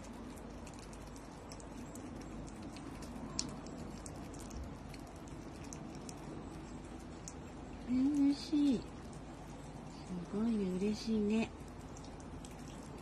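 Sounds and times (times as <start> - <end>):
otter chewing clicks and smacks: 0.0 - 13.0.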